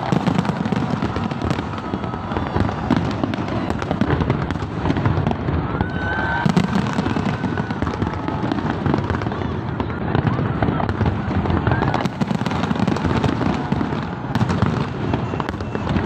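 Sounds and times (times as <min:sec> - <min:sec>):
firework rising whistle: 0:00.0 - 0:16.0
fireworks bangs and crackles: 0:00.0 - 0:16.0.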